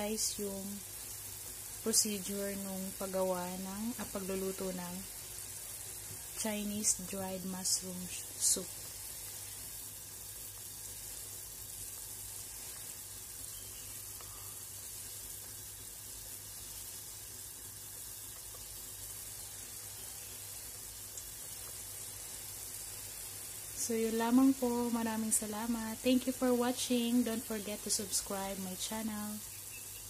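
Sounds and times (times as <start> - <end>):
soup bubbling in a pot: 0.5 - 25.3, 29.4 - 30.0.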